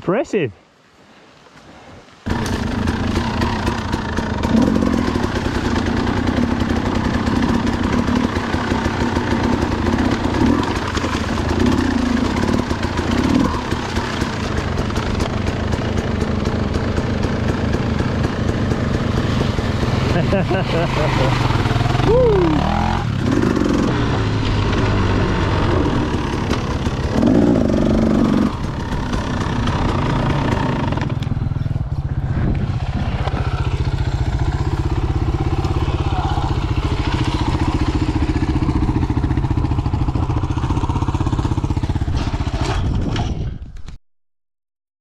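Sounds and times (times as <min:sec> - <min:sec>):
dirt bike engine idling: 0:02.3 - 0:43.6.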